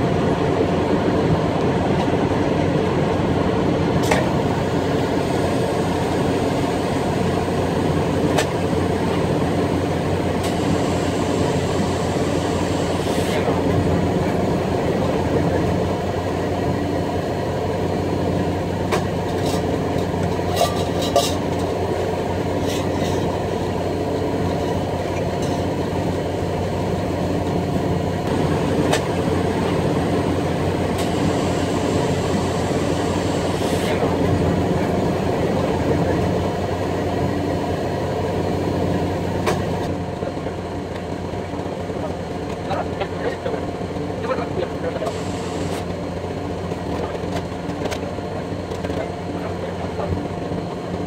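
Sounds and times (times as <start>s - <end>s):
locomotive diesel engine running: 0.0s - 51.0s
train rolling on track: 0.0s - 51.0s.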